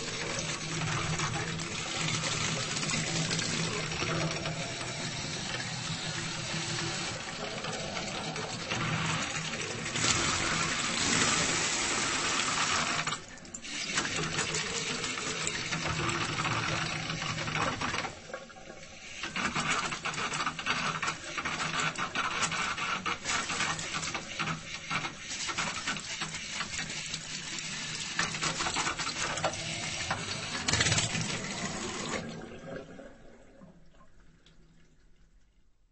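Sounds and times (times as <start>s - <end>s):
faucet running unevenly: 0.0s - 35.2s.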